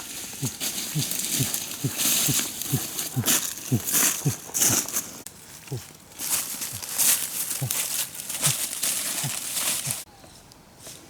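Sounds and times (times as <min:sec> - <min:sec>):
animal grunting: 0:00.0 - 0:10.0
rustling and crinkling: 0:00.0 - 0:11.0.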